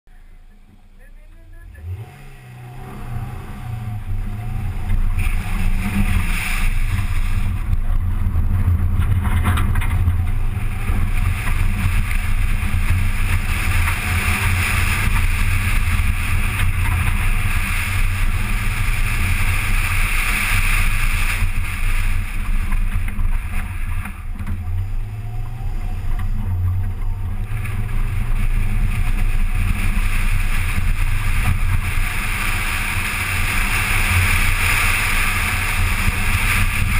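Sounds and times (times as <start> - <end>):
car engine pulling hard: 0.1 - 36.9
wind noise on microphone: 1.8 - 36.9.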